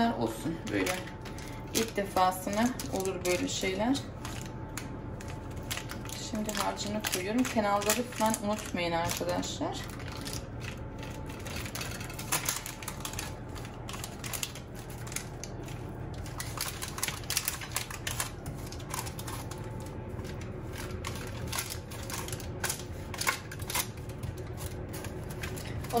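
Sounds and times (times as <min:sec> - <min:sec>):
steady low hum: 0:00.0 - 0:26.0
paper rustling: 0:00.6 - 0:26.0.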